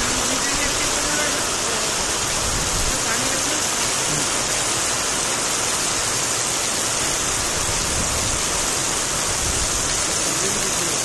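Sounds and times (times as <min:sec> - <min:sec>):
heavy rain on wet ground: 0:00.0 - 0:11.0.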